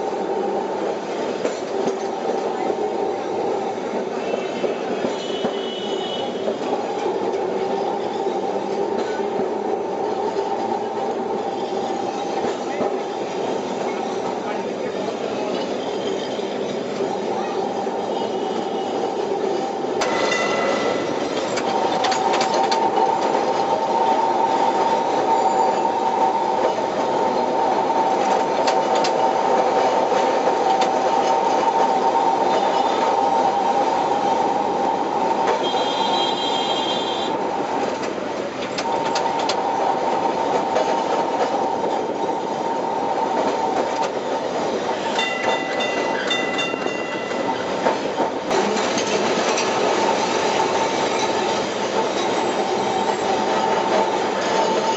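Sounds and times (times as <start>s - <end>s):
tram rolling on track: 0.0s - 54.9s
tram whine: 0.0s - 54.9s.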